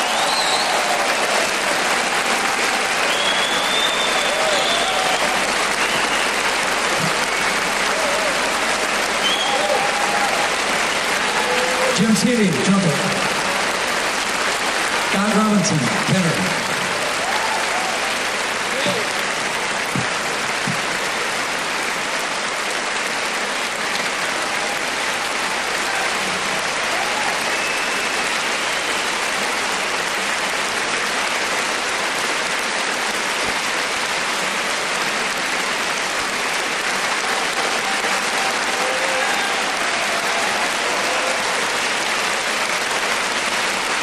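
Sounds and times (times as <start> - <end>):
audience applauding: 0.0 - 44.0.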